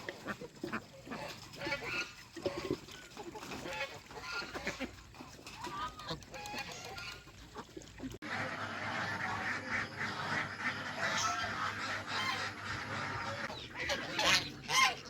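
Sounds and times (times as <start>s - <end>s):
ducks quacking: 0.0s - 15.0s
geese honking: 0.0s - 15.0s.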